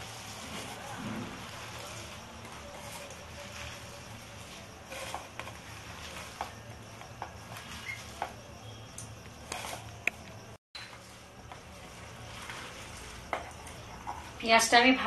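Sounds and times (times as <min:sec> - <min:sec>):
wet squishing of onions by hand: 0:00.0 - 0:14.4.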